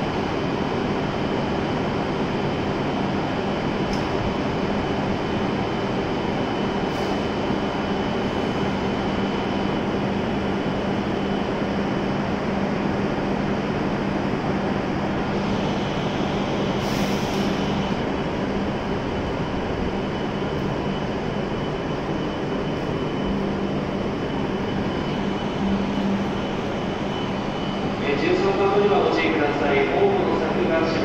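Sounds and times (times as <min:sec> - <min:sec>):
train equipment humming: 0:00.0 - 0:31.0.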